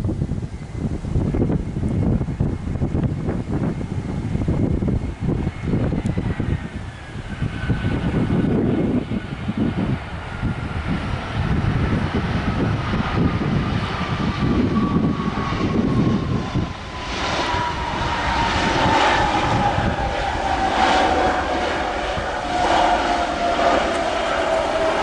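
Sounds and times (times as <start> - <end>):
wind rumbling on microphone: 0.0 - 25.0
jet engines whining: 0.5 - 25.0.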